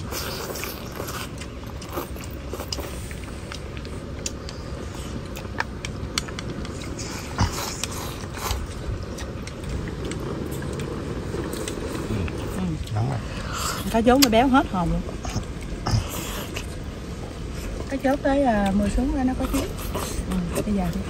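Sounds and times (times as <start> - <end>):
people chewing food: 0.0 - 21.0
steady low rumble: 0.0 - 21.0.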